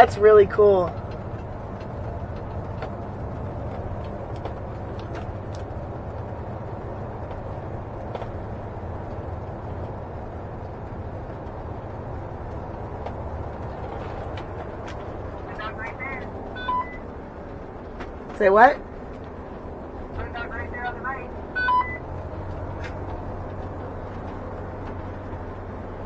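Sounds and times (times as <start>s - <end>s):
road and drivetrain noise: 0.0s - 26.0s.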